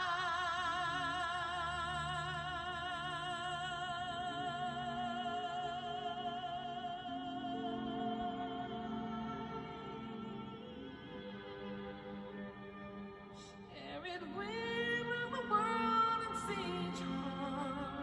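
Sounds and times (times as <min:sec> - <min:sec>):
soft orchestral accompaniment: 0:00.0 - 0:18.0.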